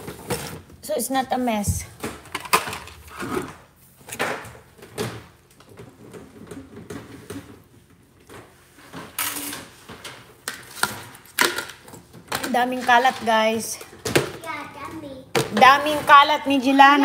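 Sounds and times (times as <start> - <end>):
objects knocking and scraping: 0.0 - 0.9, 1.6 - 17.0.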